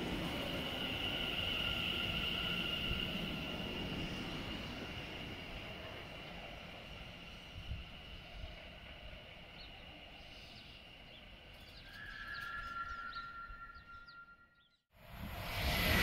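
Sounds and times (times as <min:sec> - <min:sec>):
electric train rumbling: 0:00.0 - 0:14.2, 0:15.0 - 0:16.0
electric train rushing past: 0:00.0 - 0:14.2, 0:15.0 - 0:16.0.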